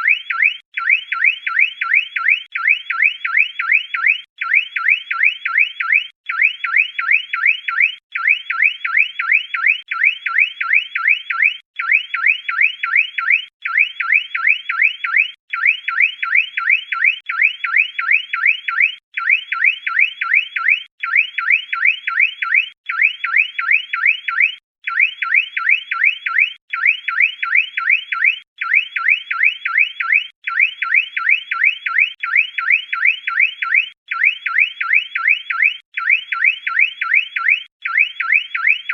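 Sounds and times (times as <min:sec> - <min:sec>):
car alarm siren: 0:00.0 - 0:38.9.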